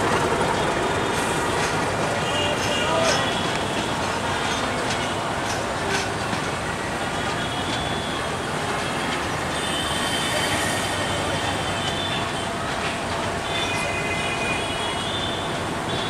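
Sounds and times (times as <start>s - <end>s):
train rumbling over rails: 0.0s - 16.0s
train wheel squeal: 0.3s - 16.0s.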